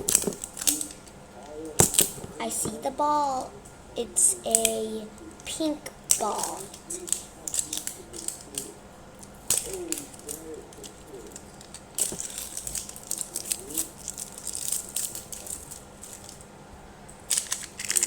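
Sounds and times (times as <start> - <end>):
plastic wrapping crinkling: 0.0 - 3.0, 4.4 - 16.6, 17.2 - 18.0.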